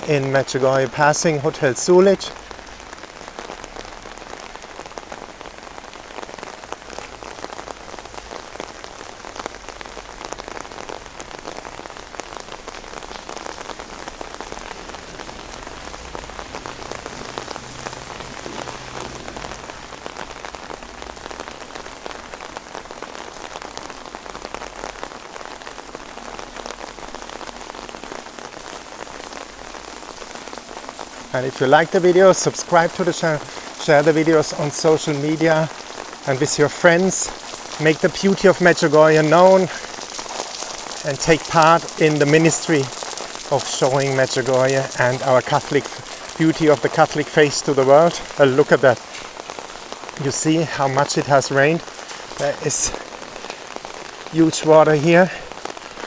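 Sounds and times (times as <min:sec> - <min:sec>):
heavy rain on umbrella and ground: 0:00.0 - 0:56.0.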